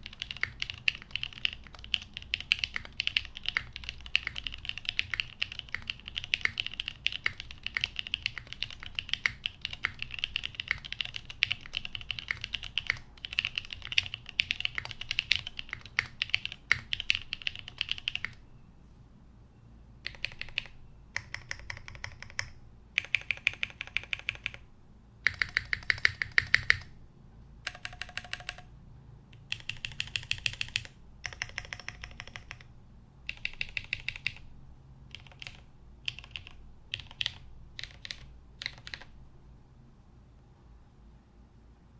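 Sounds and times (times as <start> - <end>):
mechanical keyboard typing: 0.0 - 18.4, 20.0 - 24.6, 25.2 - 27.0, 27.6 - 28.7, 29.3 - 32.7, 33.3 - 34.5, 35.1 - 39.2.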